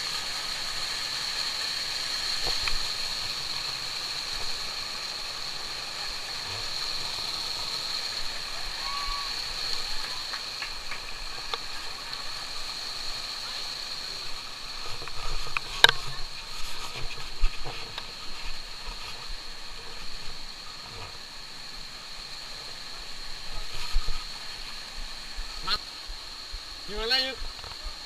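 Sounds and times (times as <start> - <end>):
rushing stream water: 0.0 - 28.0
steady high-pitched whine: 0.0 - 28.0.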